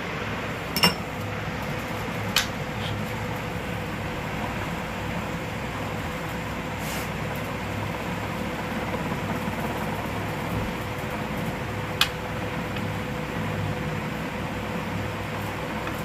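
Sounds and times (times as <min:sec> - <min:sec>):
mechanical hum and hiss: 0:00.0 - 0:16.0.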